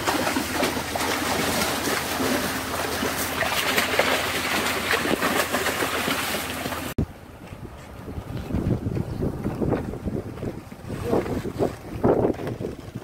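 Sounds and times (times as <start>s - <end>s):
water splashing and churning: 0.0s - 7.1s, 7.8s - 13.0s.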